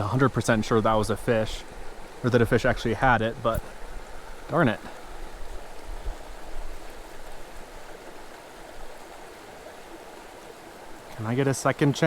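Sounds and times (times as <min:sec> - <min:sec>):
creek rushing over boulders: 0:00.0 - 0:12.0.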